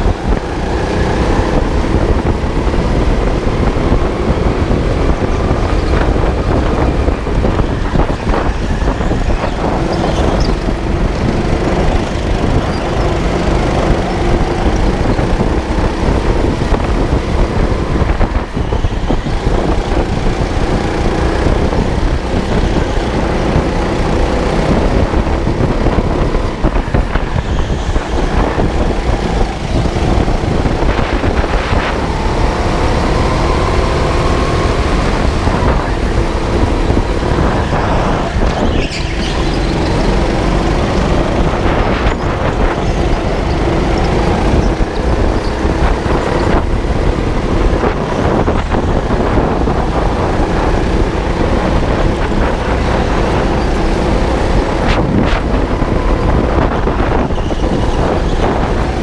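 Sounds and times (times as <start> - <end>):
go-kart motor running: 0.0 - 59.0.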